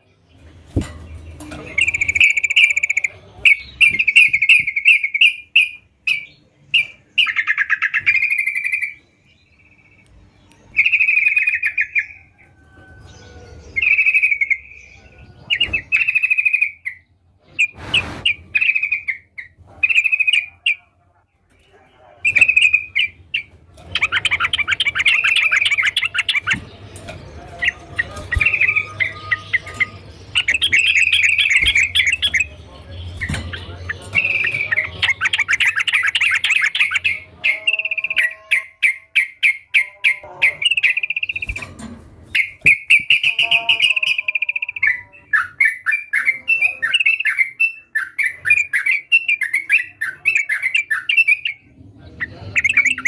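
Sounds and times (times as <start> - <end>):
bird singing chattering phrases: 0.0 - 12.4, 13.0 - 21.0, 21.9 - 53.0.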